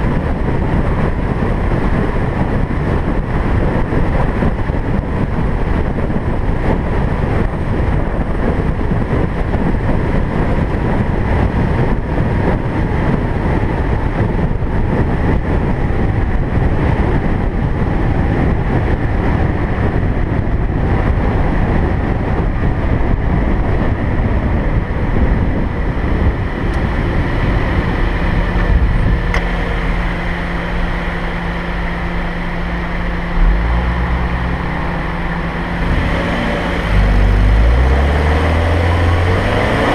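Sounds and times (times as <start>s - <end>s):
car engine hum: 0.0s - 39.9s
road and wind rush: 0.0s - 39.9s.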